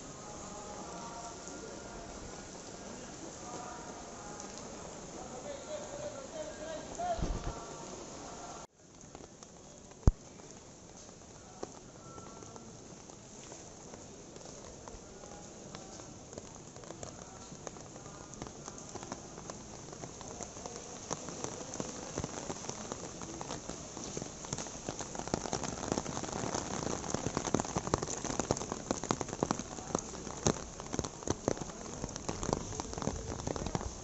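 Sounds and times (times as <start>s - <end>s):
heavy rain on stone paving: 0.0s - 34.0s.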